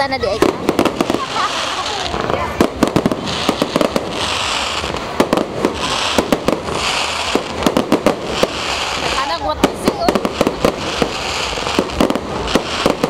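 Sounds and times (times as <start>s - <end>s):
fireworks bangs and pops: 0.0s - 13.0s
fireworks hiss: 0.0s - 13.0s.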